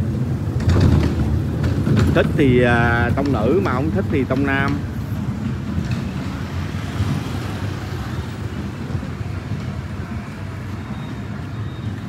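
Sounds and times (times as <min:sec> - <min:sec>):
motor scooters passing: 0:00.0 - 0:12.0.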